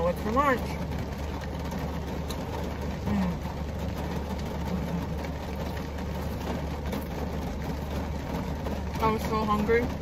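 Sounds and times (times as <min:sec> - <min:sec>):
constant low hum: 0:00.0 - 0:10.0
heavy rain on car roof: 0:00.0 - 0:10.0.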